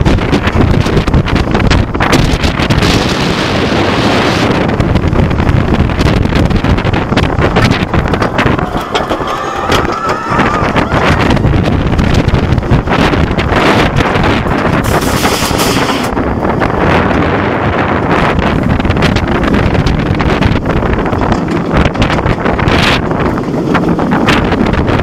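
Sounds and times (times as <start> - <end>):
roller coaster rumbling on track: 0.0 - 25.0
wind buffeting microphone: 0.0 - 25.0.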